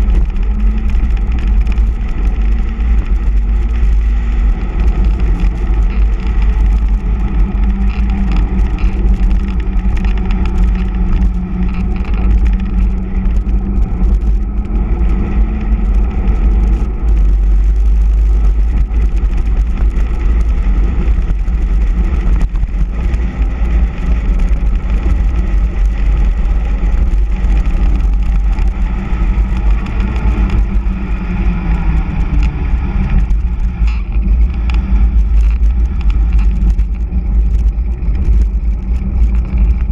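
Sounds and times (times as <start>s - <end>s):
bicycle tyres humming on asphalt: 0.0s - 39.9s
wind rushing over microphone: 0.0s - 39.9s.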